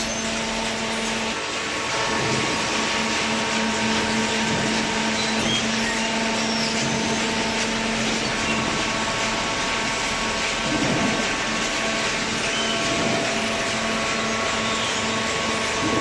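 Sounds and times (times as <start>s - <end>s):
hydraulic baling machine hum: 0.0s - 16.0s.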